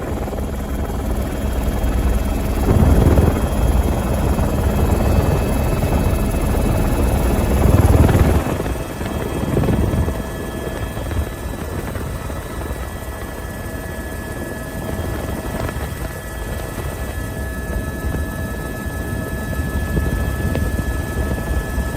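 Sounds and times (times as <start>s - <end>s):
helicopter rotor and engine drone: 0.0s - 21.9s.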